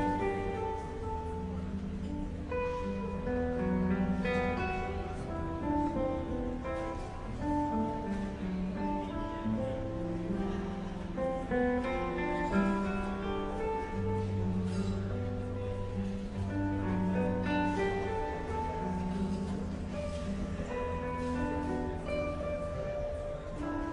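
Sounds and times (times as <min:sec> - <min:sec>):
plucked guitar melody: 0:00.0 - 0:23.9.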